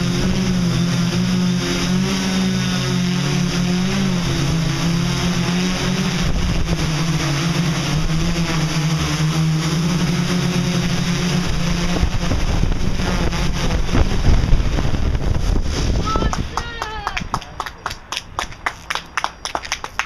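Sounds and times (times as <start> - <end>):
drone motors and propellers humming: 0.0 - 16.8.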